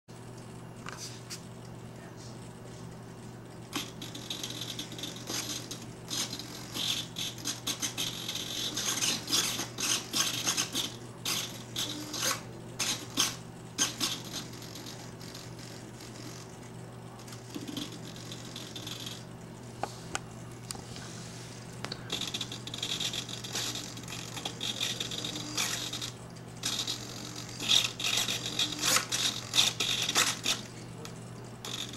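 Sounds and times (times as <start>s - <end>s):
steady low hum: 0.2s - 31.9s
servos buzzing: 3.6s - 19.4s, 21.6s - 31.9s.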